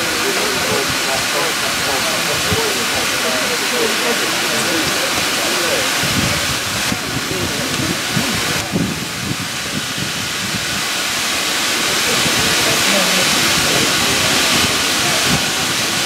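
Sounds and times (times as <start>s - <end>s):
murmur of voices: 0.0s - 16.0s
steam locomotive hissing: 0.0s - 16.0s.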